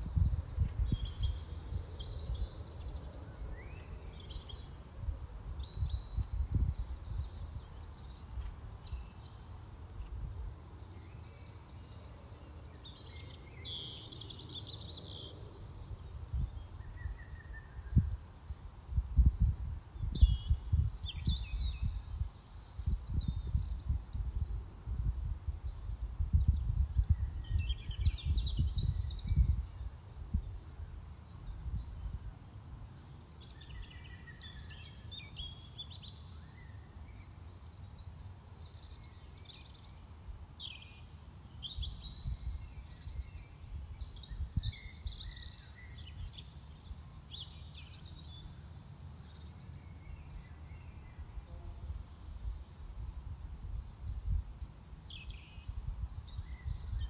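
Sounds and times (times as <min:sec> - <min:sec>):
small birds singing and chirping: 0:00.0 - 0:57.0.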